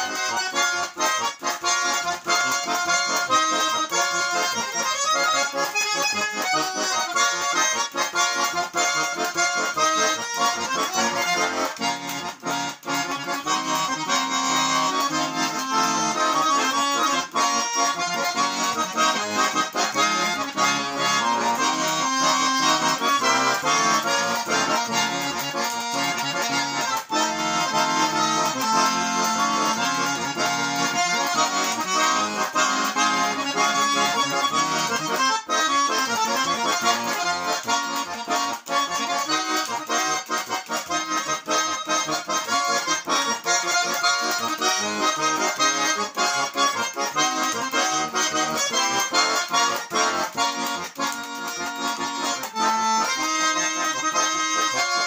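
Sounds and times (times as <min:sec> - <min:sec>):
button accordion playing folk tune: 0:00.0 - 0:55.0.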